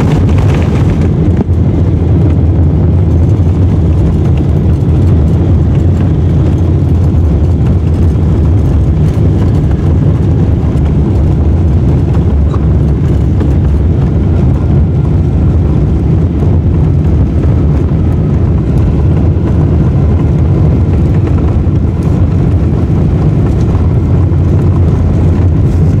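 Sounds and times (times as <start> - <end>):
airplane cabin low rumble: 0.0 - 26.0.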